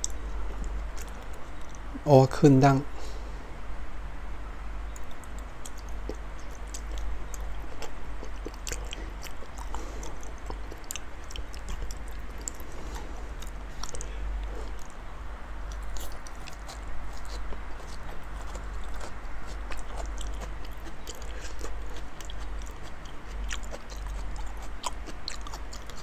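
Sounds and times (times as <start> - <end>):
person chewing: 0.0 - 2.0, 4.9 - 26.0
steady low hum: 0.0 - 26.0.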